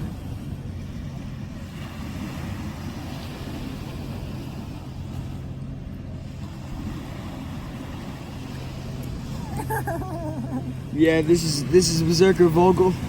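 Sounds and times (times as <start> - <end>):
surf: 0.0 - 13.0.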